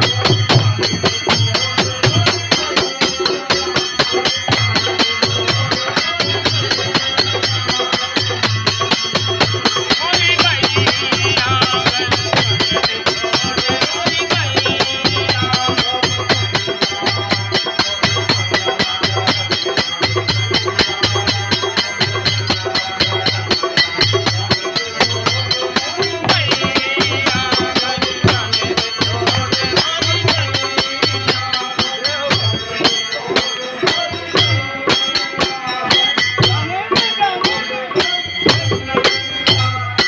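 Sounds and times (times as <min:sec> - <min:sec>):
fast high percussion: 0:00.0 - 0:40.0
hand drum beating: 0:00.0 - 0:40.0
man singing: 0:00.0 - 0:40.0.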